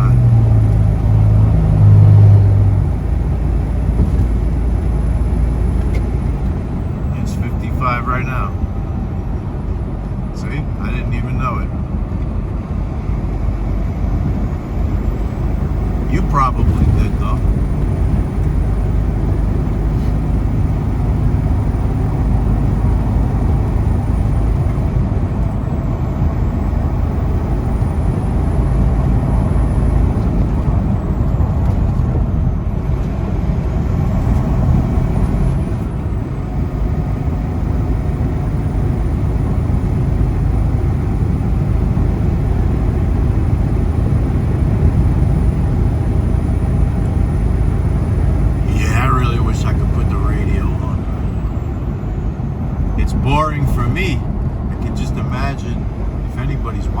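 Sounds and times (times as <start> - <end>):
road noise inside cab: 0.0 - 57.0
truck engine drone: 0.0 - 57.0.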